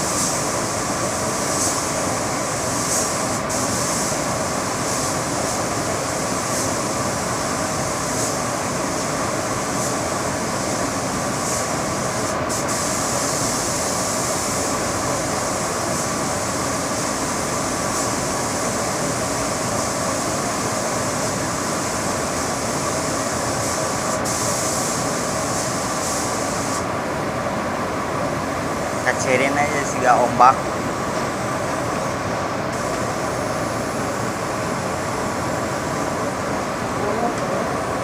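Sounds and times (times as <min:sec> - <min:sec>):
paint spray gun hissing: 0:00.0 - 0:26.9, 0:32.7 - 0:37.8.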